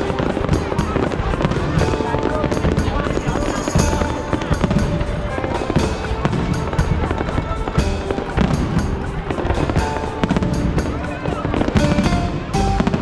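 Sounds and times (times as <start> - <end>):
music melody: 0.0 - 13.0.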